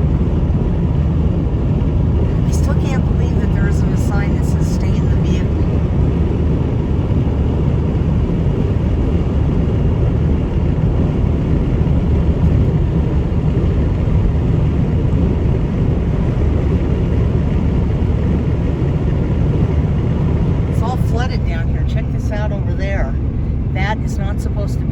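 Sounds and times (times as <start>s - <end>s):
car road noise rumble: 0.0s - 24.9s.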